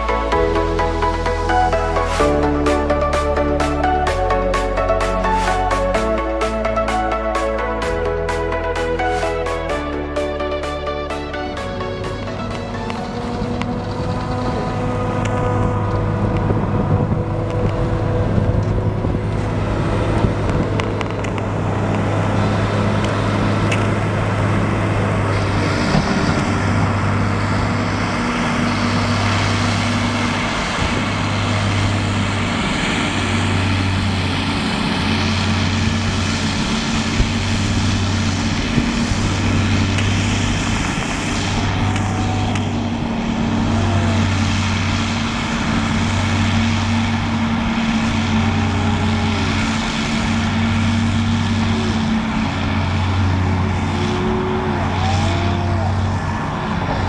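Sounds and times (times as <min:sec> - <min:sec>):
heavy diesel farm machinery: 0:00.0 - 0:57.0
low drone: 0:00.0 - 0:57.0.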